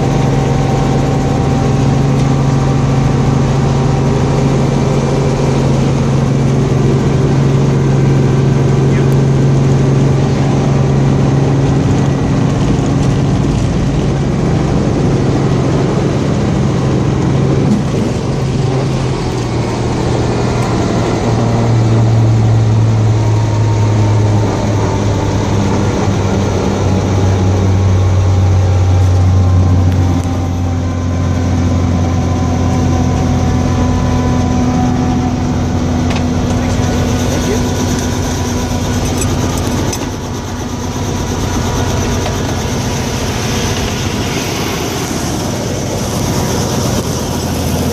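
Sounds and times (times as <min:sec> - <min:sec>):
helicopter engine and rotor: 0:00.0 - 0:47.9.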